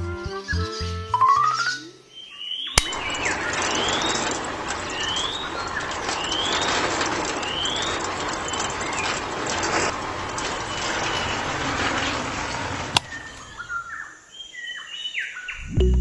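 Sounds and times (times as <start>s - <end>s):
bird chirping: 0.7s - 15.7s.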